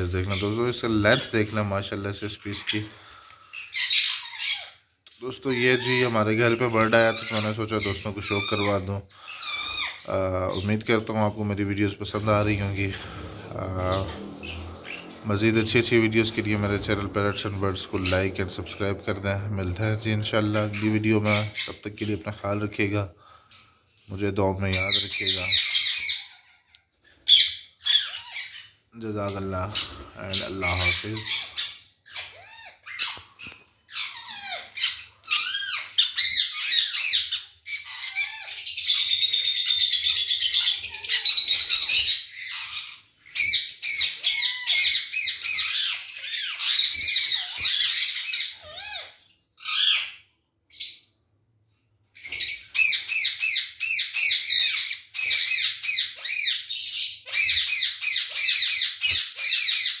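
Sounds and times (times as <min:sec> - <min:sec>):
many birds chirping: 0:00.0 - 0:51.2, 0:51.8 - 1:00.0.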